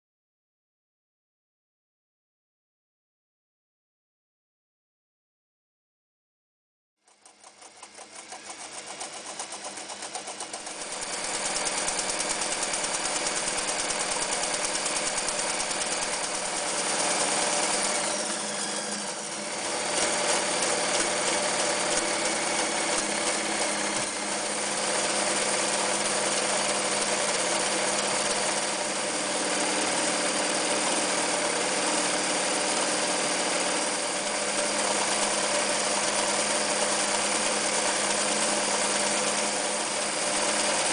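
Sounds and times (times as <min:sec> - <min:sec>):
sewing machine running: 0:07.1 - 0:40.9.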